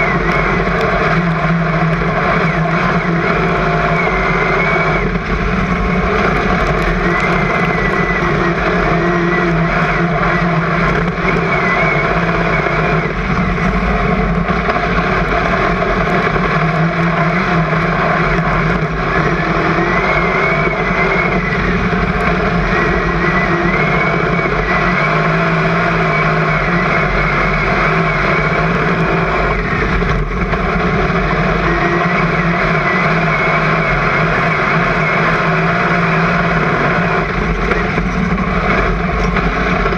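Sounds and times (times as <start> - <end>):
faint high whine: 0.0 - 39.9
racing car engine drone: 0.0 - 39.9
road and wind noise: 0.0 - 39.9.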